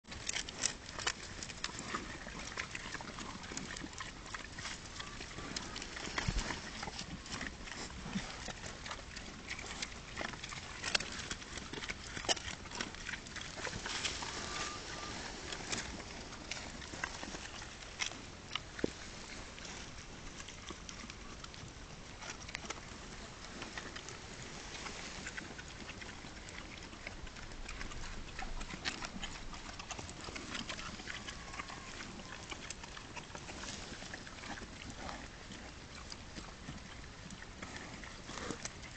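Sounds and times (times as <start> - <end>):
pigs crunching leaves: 0.0 - 38.9.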